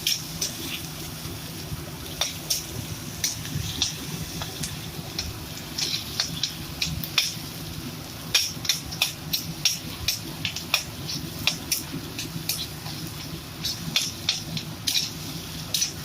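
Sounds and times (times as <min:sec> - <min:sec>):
food popping in a pan: 0:00.0 - 0:16.0
steady low hum: 0:00.0 - 0:16.0.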